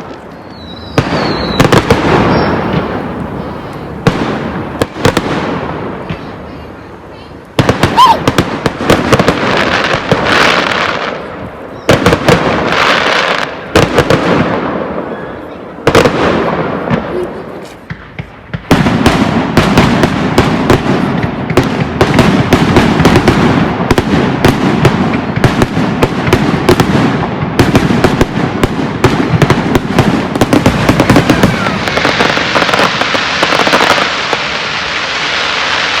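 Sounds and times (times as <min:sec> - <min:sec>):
fireworks bangs and cracks: 0:00.0 - 0:36.0
fireworks hissing crackle: 0:00.0 - 0:36.0.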